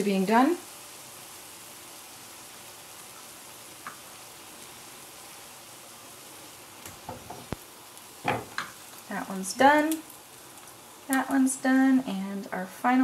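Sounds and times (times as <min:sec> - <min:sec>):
cookies sizzling in oil: 0:00.0 - 0:13.0.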